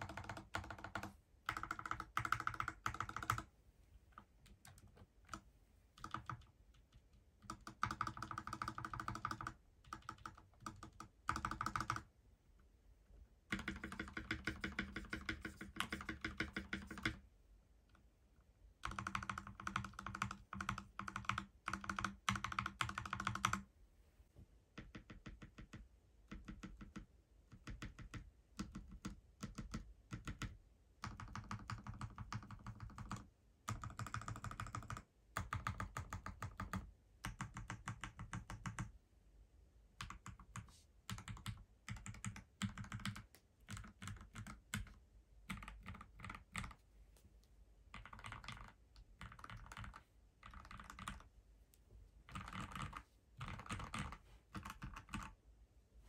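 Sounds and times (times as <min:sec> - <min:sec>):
mechanical keyboard typing: 0:00.0 - 0:03.5, 0:04.2 - 0:12.1, 0:13.5 - 0:17.2, 0:18.8 - 0:23.7, 0:24.8 - 0:38.9, 0:40.0 - 0:46.8, 0:47.9 - 0:51.3, 0:52.2 - 0:55.4.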